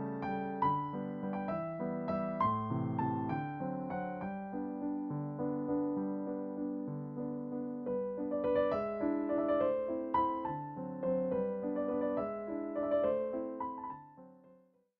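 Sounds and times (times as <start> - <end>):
piano music: 0.0 - 14.6.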